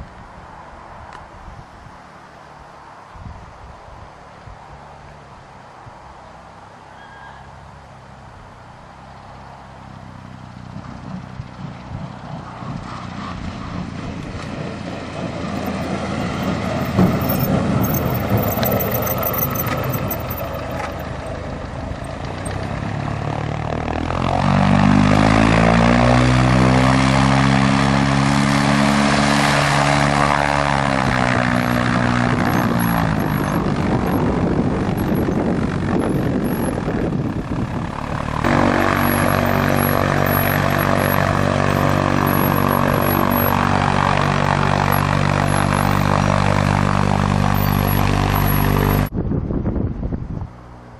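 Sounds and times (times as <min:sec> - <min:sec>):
propeller engine running: 0:07.8 - 0:50.9.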